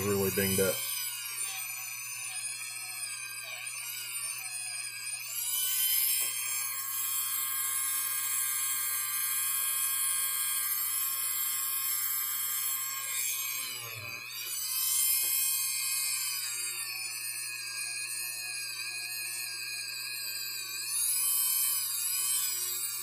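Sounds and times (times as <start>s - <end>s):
rotary tool high-pitched whine: 0.0s - 23.0s.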